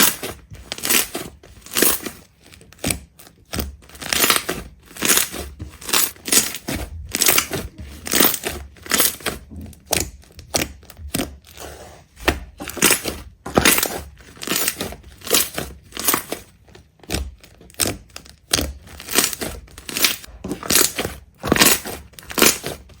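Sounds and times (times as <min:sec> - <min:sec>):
brittle crunching: 0:00.0 - 0:23.0.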